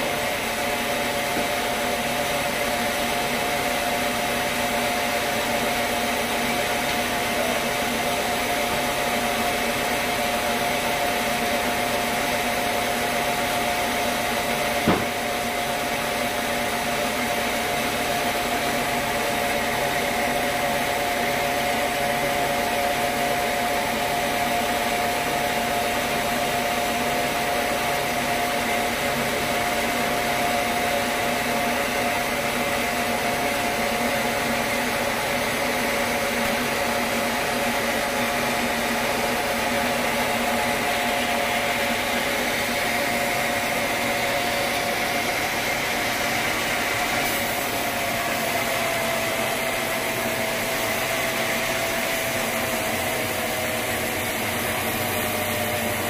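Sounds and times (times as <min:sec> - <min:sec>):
band saw running: 0:00.0 - 0:56.0.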